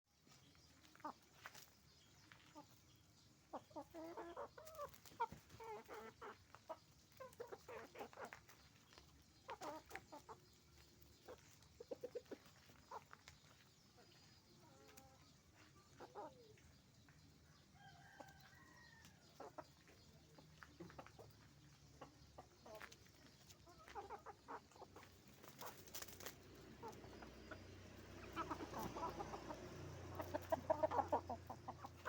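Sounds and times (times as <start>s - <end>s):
chickens clucking: 0.2s - 32.0s.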